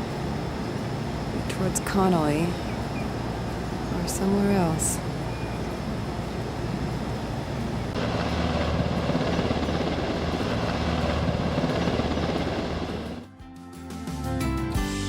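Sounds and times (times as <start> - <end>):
helicopter rotor chop: 0.0 - 13.3.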